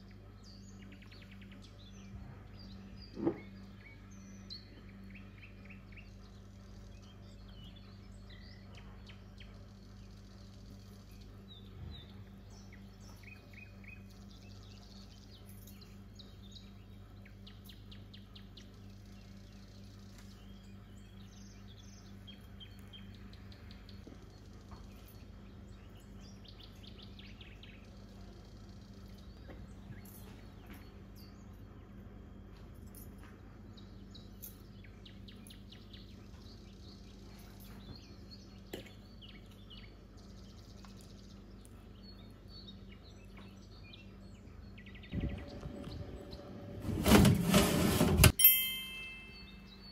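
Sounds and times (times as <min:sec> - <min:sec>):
birds chirping and trilling: 0:00.0 - 0:48.2, 0:48.8 - 0:49.9
steady low hum: 0:00.0 - 0:49.9.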